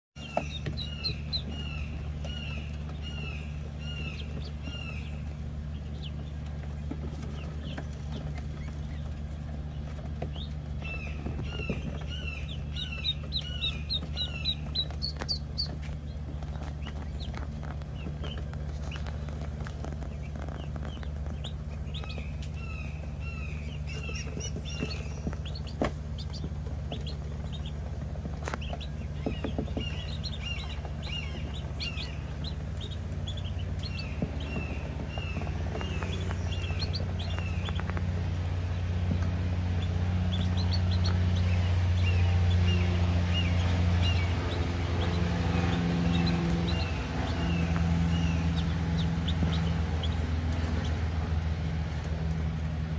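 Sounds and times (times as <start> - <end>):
ducklings peeping: 0.2 - 52.9
steady low hum: 0.2 - 52.9.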